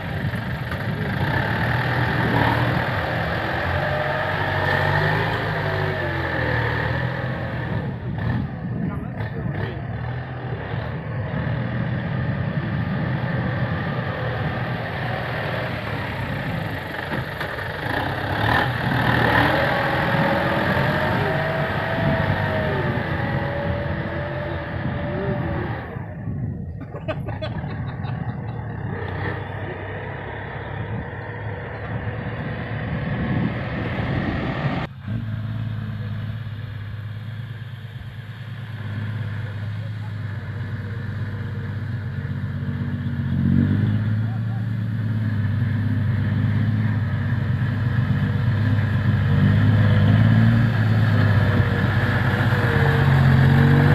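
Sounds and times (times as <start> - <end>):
truck diesel engine revving: 0.0 - 53.9.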